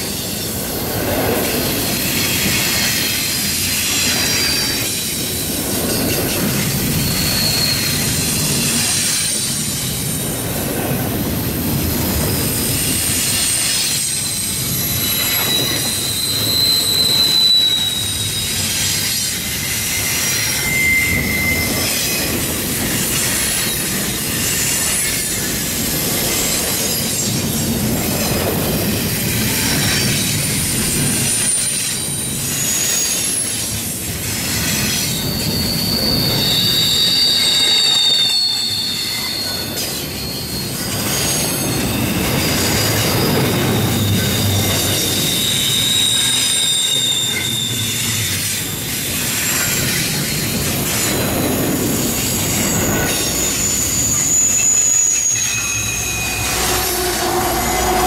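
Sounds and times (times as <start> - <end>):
train wheels rumbling on rail: 0.0 - 58.0
high wheel squeals: 1.6 - 10.5, 11.7 - 58.0.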